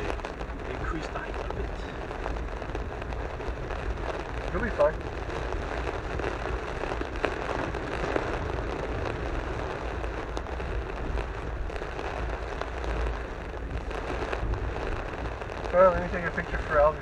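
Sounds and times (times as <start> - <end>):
low road rumble: 0.0 - 17.0
rain beating on a car: 0.0 - 17.0.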